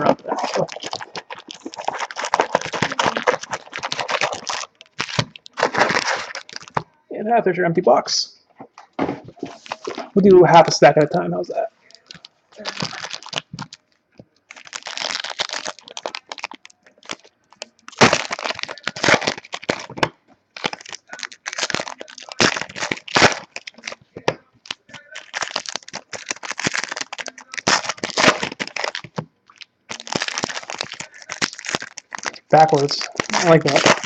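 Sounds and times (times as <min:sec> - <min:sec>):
wrappers tearing and crinkling: 0:00.0 - 0:06.8, 0:09.4 - 0:10.2, 0:11.8 - 0:34.0.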